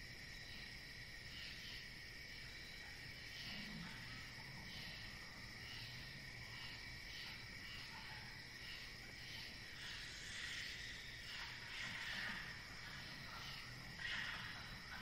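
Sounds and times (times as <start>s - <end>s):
continuous insect trill: 0.0s - 15.0s
insects chirping: 0.0s - 15.0s.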